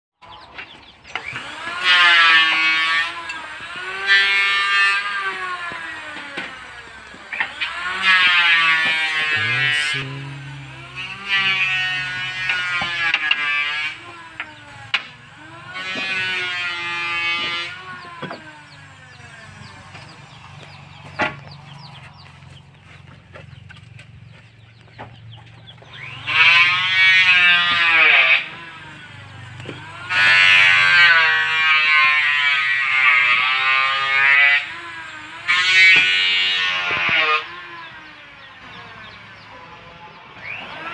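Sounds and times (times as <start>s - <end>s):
circular saw blade whining: 0.2s - 23.7s, 24.7s - 40.9s
motor humming: 0.2s - 40.9s.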